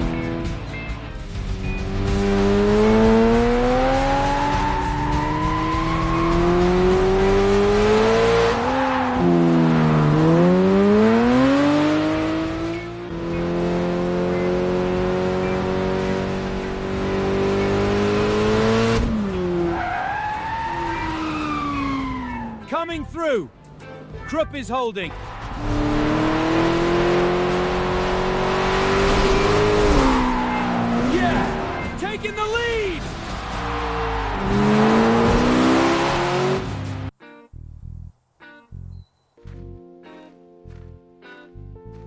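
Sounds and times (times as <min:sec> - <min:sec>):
race car engine accelerating: 0:00.0 - 0:22.6, 0:25.1 - 0:32.3, 0:33.0 - 0:37.1.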